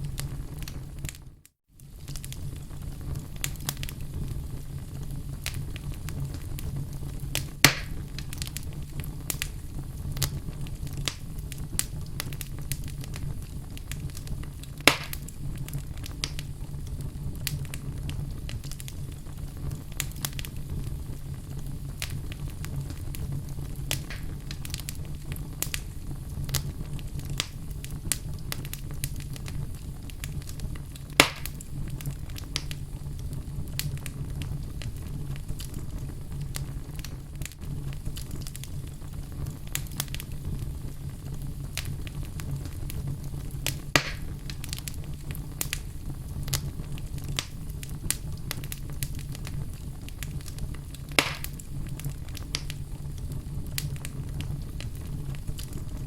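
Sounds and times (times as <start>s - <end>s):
loud fire pops: 0.0s - 56.0s
wood fire crackling: 0.0s - 56.0s.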